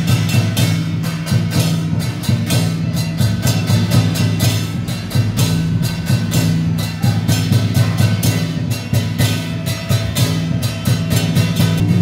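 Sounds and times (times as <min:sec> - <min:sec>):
drums beaten fast: 0:00.0 - 0:12.0
steady low tone: 0:01.6 - 0:12.0.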